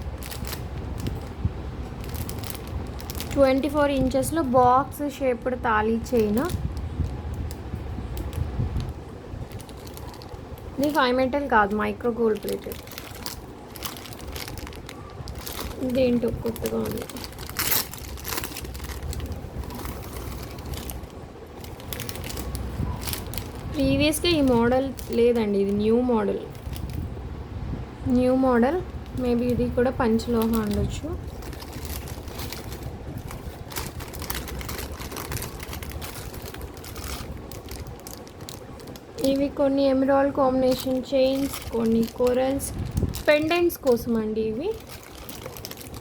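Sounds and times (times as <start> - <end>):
plastic packets rustling: 0.0 - 4.9, 5.8 - 27.1, 28.1 - 46.0
low background rumble: 0.0 - 46.0.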